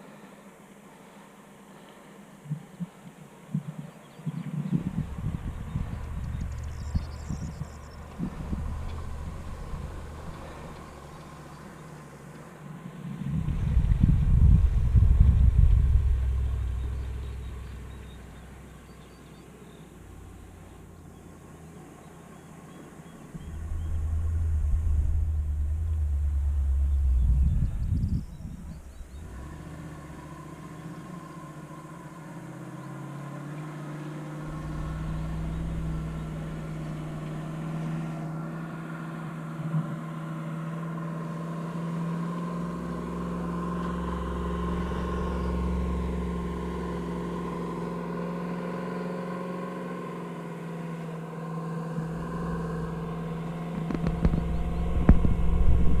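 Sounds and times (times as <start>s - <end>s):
motor vehicle engine drone: 0.0s - 56.0s.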